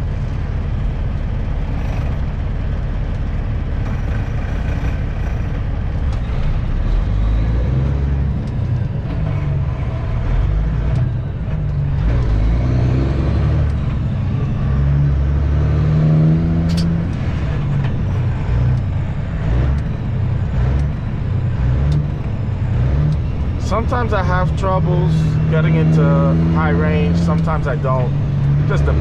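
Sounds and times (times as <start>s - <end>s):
truck diesel engine from cab: 0.0s - 29.0s.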